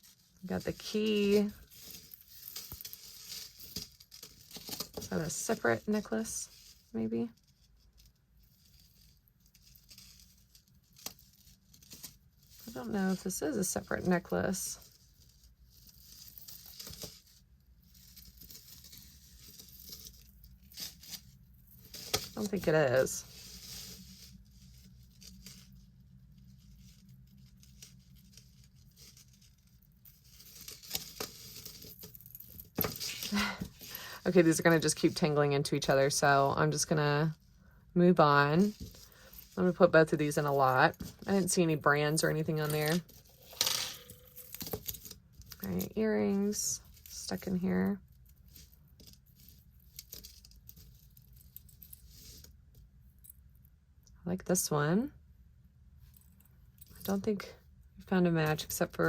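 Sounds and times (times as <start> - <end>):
necklace chains clinking: 0.0 - 37.3, 38.2 - 53.7, 56.0 - 57.4.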